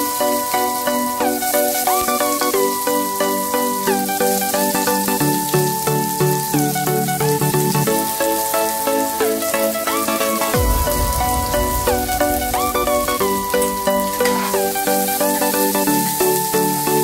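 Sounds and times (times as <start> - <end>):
food sizzling in oil: 0.0 - 17.0
instrumental background music: 0.0 - 17.0.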